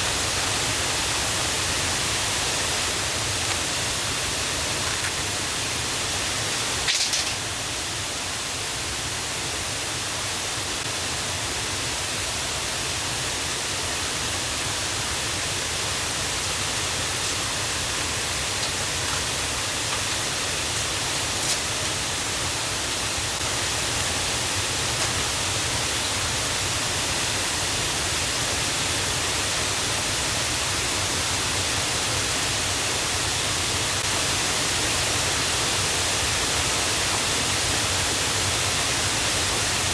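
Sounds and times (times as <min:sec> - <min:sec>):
river and waterfall rushing: 0:00.0 - 0:39.9.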